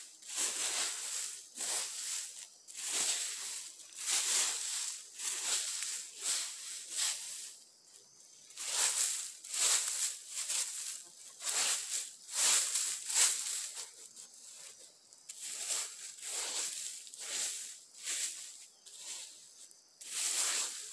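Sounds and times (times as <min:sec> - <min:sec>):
dry leaves swept and rustling: 0:00.0 - 0:20.9.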